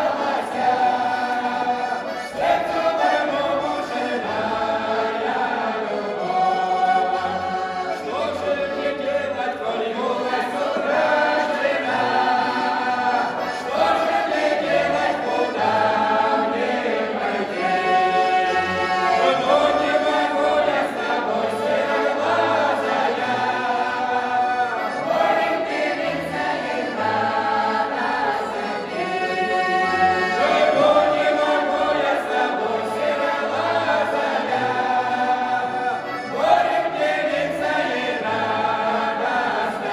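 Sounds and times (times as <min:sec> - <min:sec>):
choir singing folk song: 0:00.0 - 0:39.9.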